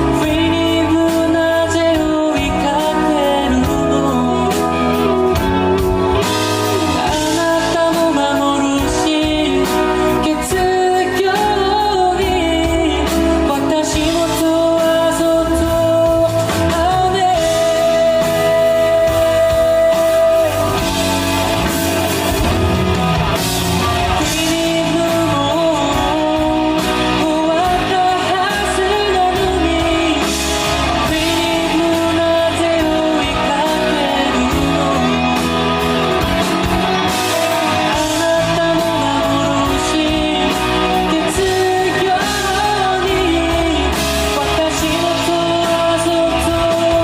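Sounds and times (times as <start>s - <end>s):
band playing pop-rock ballad: 0.0s - 47.0s
lead melody line: 0.0s - 47.0s.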